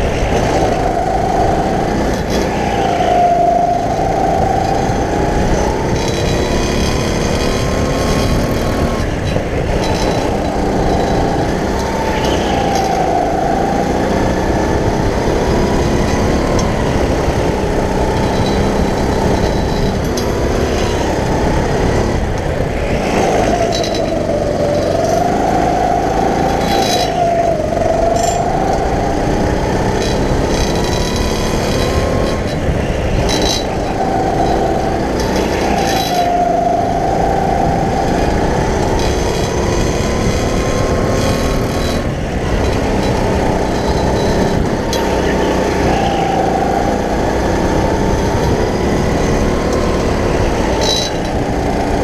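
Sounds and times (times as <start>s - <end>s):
go-kart motor running: 0.0s - 52.0s.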